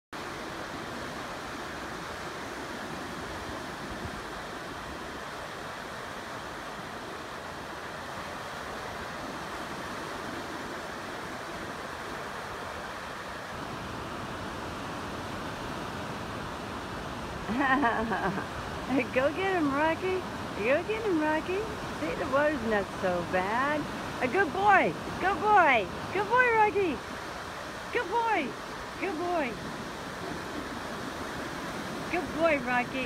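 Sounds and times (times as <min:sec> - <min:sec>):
ocean waves on a beach: 0:00.2 - 0:33.0.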